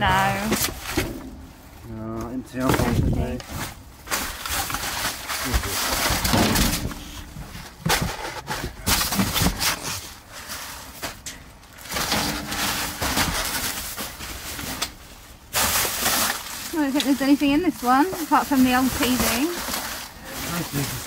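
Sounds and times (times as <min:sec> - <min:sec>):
plastic and cardboard rustling: 0:00.0 - 0:21.0.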